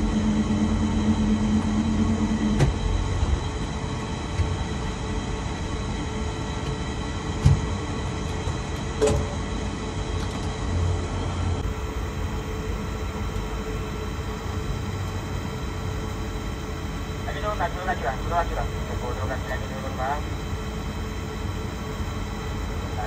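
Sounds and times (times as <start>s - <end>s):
crane machinery rumbling and whining: 0.0s - 23.0s.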